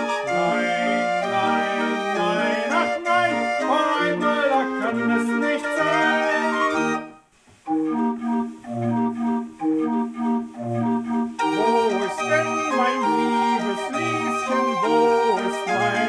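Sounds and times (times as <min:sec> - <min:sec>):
barrel organ playing folk melody: 0:00.0 - 0:16.0.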